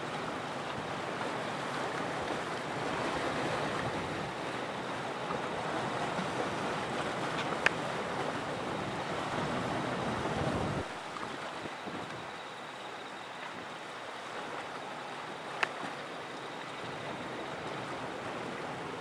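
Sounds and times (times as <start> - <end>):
surf: 0.0 - 19.0
wind: 0.0 - 19.0.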